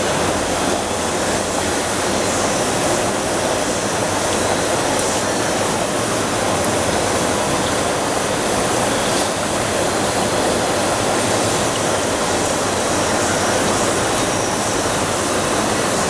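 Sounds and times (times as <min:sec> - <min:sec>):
fish tank water rushing: 0:00.0 - 0:16.0.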